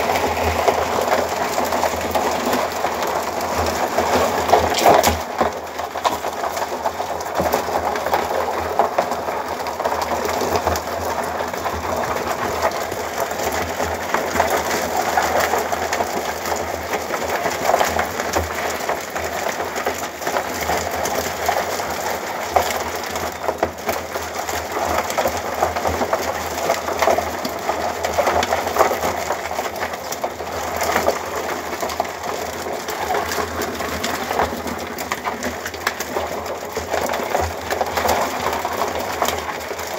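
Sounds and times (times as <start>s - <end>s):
crabs clicking in plastic bucket: 0.0s - 39.9s.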